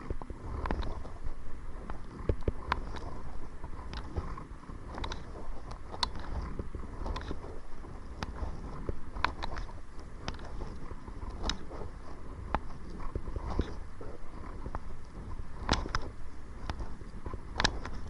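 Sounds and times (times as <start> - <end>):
paddle clicking: 0.0 - 18.0
wind rumble on microphone: 0.0 - 18.0.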